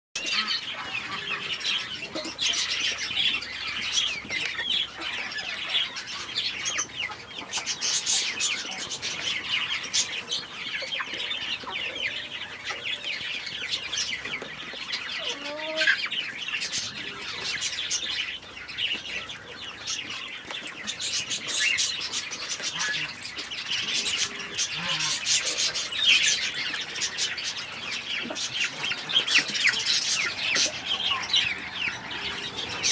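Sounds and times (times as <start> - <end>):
small birds chirping: 0.2 - 32.9.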